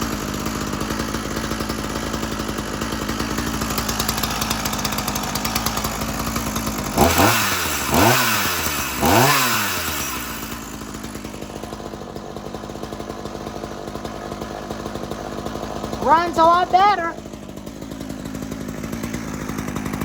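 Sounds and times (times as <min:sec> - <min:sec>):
chainsaw idling and revving: 0:00.0 - 0:20.0.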